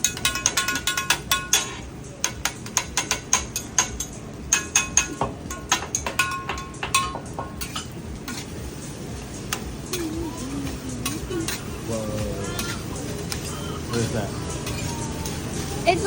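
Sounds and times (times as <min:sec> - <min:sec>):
metal spatulas clanking on griddle: 0:00.0 - 0:10.2, 0:11.0 - 0:15.4.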